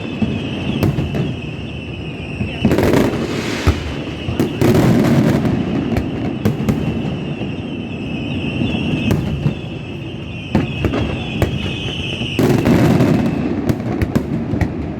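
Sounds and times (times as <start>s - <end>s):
crackling fireworks bangs: 0.0s - 14.9s
fireworks bangs and pops: 0.0s - 14.9s
high-pitched whistle: 0.3s - 13.4s.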